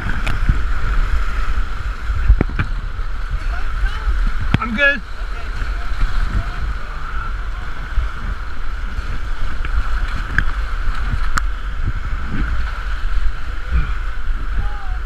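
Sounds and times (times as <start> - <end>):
rushing whitewater: 0.0 - 15.0
wind buffeting microphone: 0.0 - 15.0.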